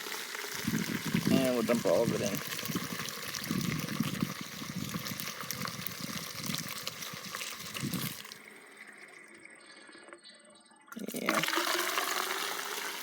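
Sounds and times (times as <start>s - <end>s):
fuel pouring through funnel: 0.0s - 10.2s, 10.9s - 13.0s.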